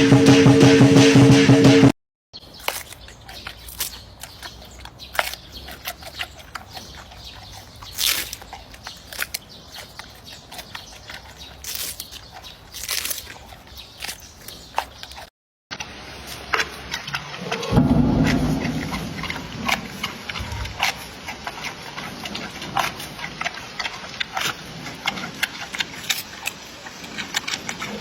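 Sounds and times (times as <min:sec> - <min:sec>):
panda chewing bamboo: 0:02.4 - 0:28.0.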